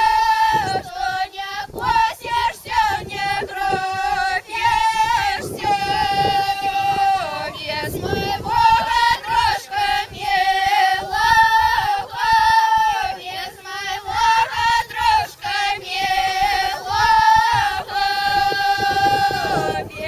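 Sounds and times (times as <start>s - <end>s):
women and girls singing: 0.0s - 20.0s.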